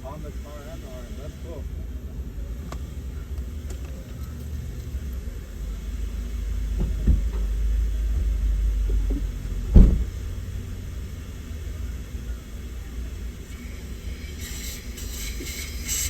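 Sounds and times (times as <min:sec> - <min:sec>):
car wash rumble: 0:00.0 - 0:16.0.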